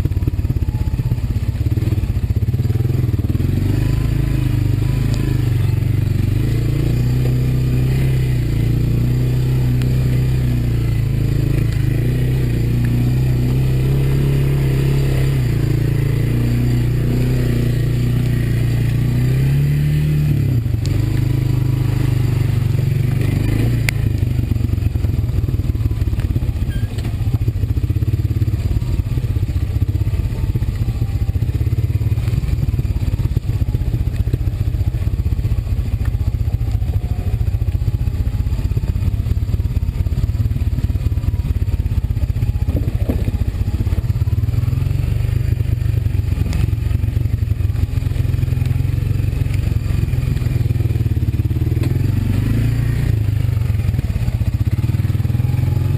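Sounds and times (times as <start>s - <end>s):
atv engine running: 0.0s - 55.9s.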